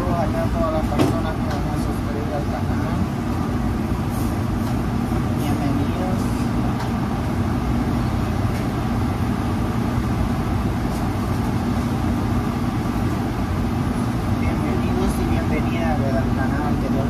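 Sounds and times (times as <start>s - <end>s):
exhaust hood fan drone: 0.0s - 17.0s.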